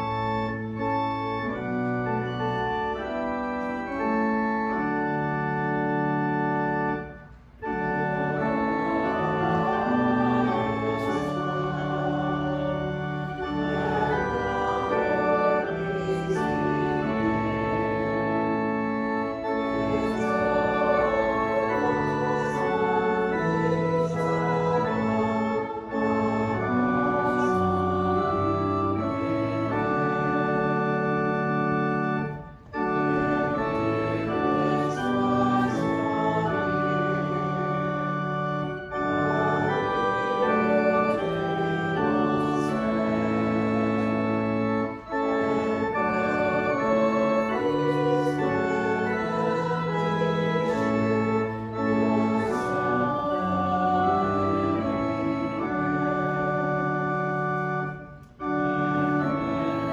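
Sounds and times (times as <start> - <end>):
church organ playing a hymn: 0.0 - 59.9.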